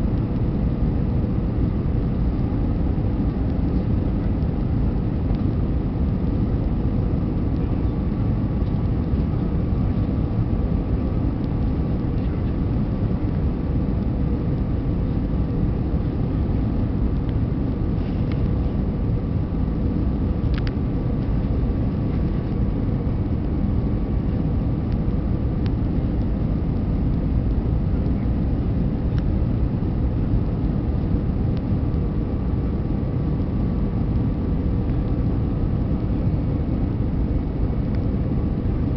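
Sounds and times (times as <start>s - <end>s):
aircraft engines and airflow rumble: 0.0s - 38.9s.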